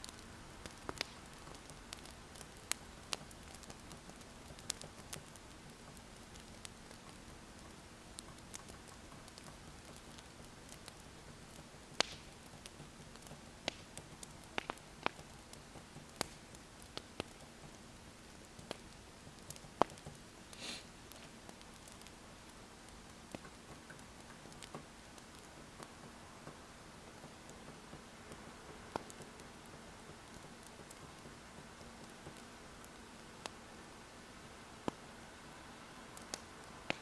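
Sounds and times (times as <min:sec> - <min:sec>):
faint steady hiss and hum: 0:00.0 - 0:37.0
wood fire crackling: 0:00.0 - 0:37.0.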